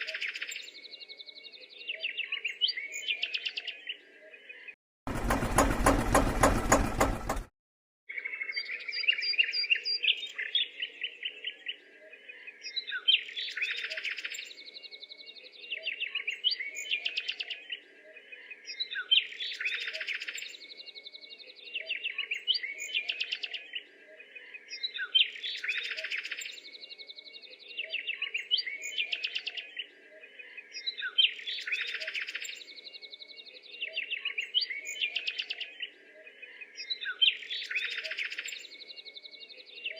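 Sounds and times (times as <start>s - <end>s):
birds chirping and twittering: 0.0s - 7.4s, 8.1s - 39.9s.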